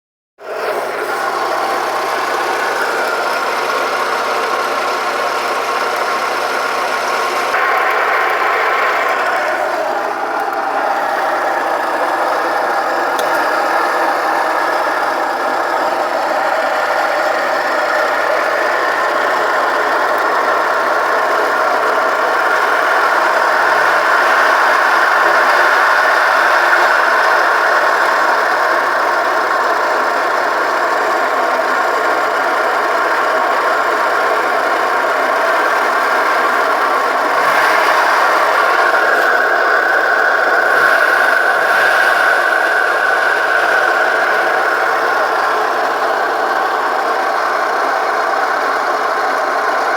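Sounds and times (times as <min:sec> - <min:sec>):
car engine running: 0:00.4 - 0:49.9
strange engine noise: 0:00.4 - 0:49.9.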